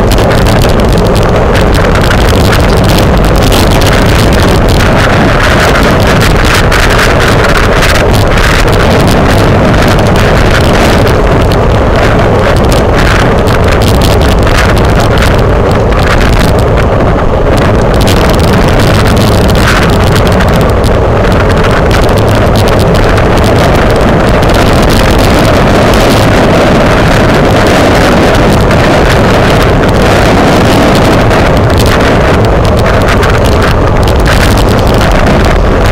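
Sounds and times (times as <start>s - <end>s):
low rumble: 0.0s - 35.9s
wind buffeting microphone: 0.0s - 35.9s.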